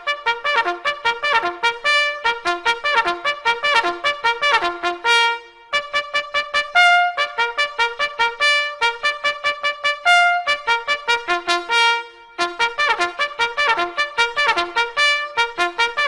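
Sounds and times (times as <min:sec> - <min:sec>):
trumpet fanfare: 0:00.0 - 0:16.0.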